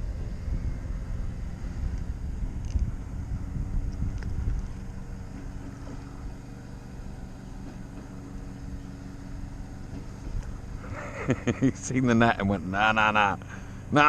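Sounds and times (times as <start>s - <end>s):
wind rumble on microphone: 0.0s - 11.8s
low steady hum: 0.0s - 14.0s.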